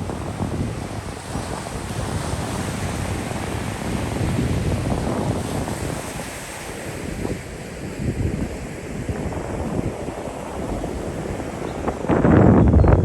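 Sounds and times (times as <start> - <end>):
sea waves breaking on shore: 0.0 - 12.6
wind buffeting microphone: 0.0 - 13.0.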